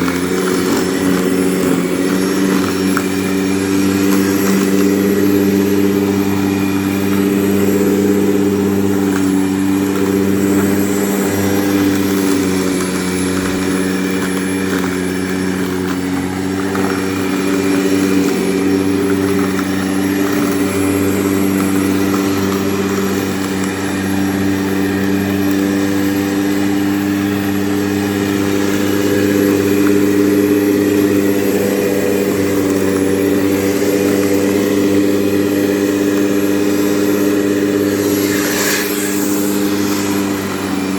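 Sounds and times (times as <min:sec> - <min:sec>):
electric lawn mower running: 0:00.0 - 0:40.9.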